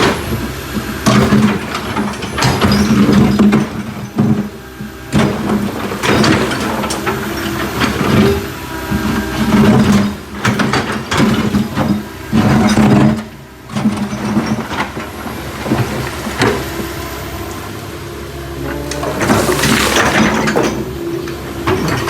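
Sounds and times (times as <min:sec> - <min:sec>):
backhoe engine running: 0:00.0 - 0:22.0
metal clanks and knocks: 0:01.0 - 0:16.7, 0:18.6 - 0:22.0.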